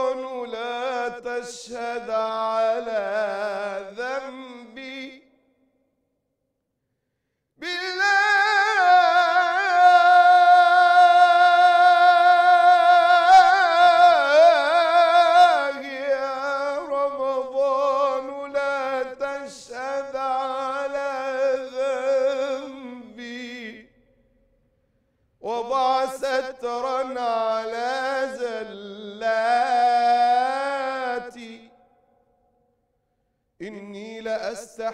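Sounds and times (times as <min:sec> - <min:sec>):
man singing devotional chant: 0:00.0 - 0:05.3, 0:07.6 - 0:23.9, 0:25.4 - 0:31.8, 0:33.6 - 0:34.9.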